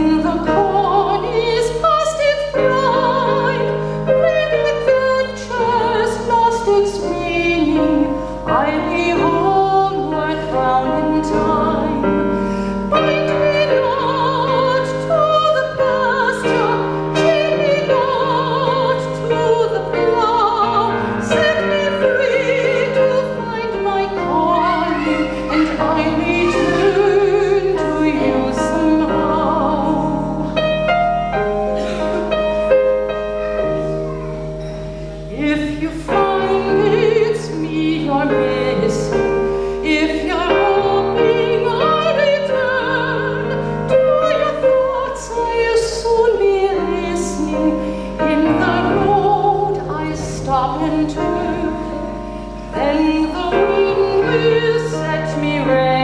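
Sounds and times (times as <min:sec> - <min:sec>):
digital piano: 0:00.0 - 0:56.0
woman singing classical: 0:00.0 - 0:56.0.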